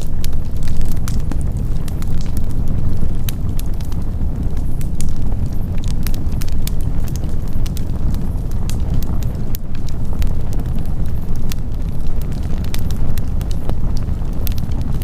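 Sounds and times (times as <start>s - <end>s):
campfire crackling and popping: 0.0s - 15.0s
fire low rumble: 0.0s - 15.0s.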